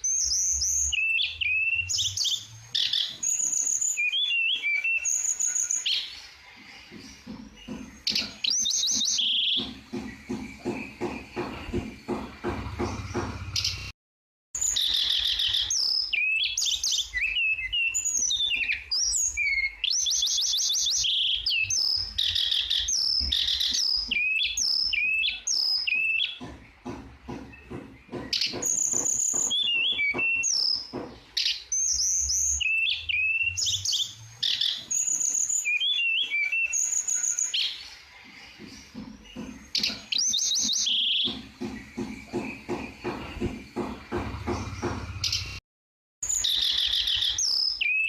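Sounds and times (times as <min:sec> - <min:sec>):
songbird singing: 0:00.0 - 0:13.9, 0:14.6 - 0:45.6, 0:46.2 - 0:48.0.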